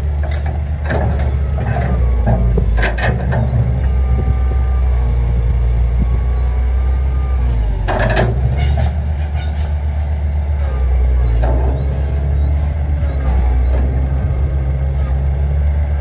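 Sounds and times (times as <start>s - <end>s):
excavator diesel engine rumbling: 0.0s - 16.0s.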